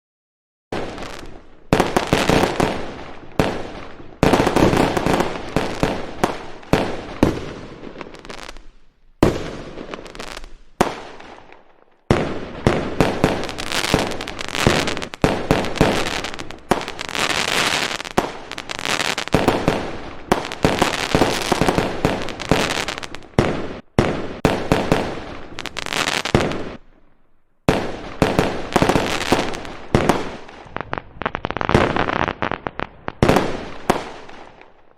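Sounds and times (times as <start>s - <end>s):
fireworks banging and crackling: 0.7s - 34.9s.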